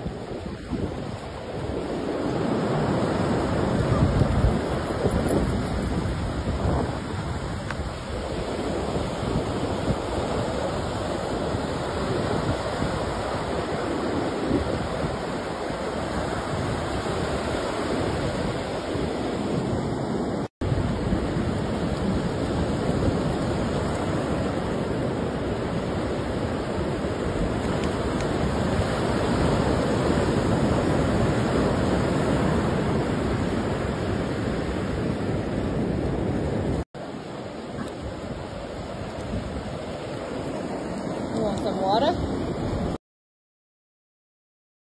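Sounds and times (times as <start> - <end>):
ocean surf on sandy beach: 0.0 - 43.0
wind rumbling on microphone: 0.0 - 43.0.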